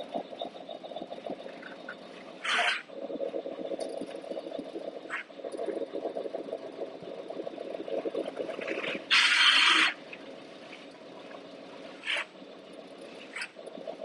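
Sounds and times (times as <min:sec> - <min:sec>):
quiet steady background: 0:00.0 - 0:14.0.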